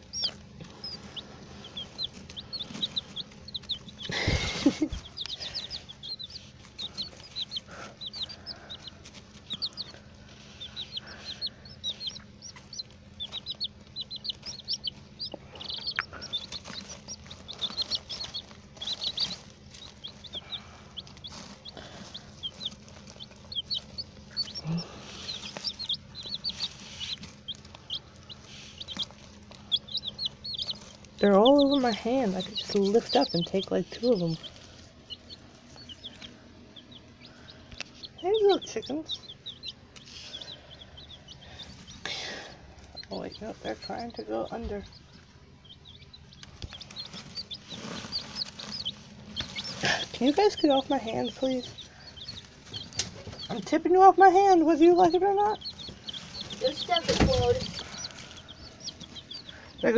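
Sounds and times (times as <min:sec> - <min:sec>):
baby chicks peeping: 0:00.0 - 0:59.9.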